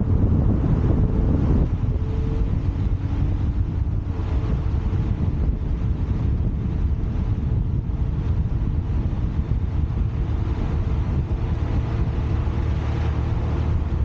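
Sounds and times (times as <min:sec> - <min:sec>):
road and tyre rumble: 0:00.0 - 0:14.0
wind rush on microphone: 0:00.0 - 0:14.0.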